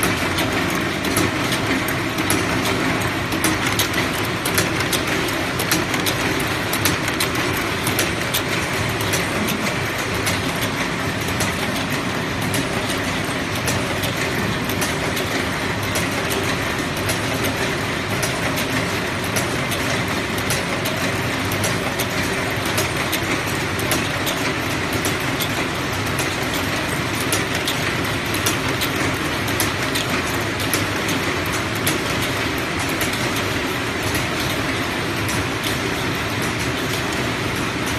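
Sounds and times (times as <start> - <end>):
machines clattering rapid clicks: 0.0 - 37.9.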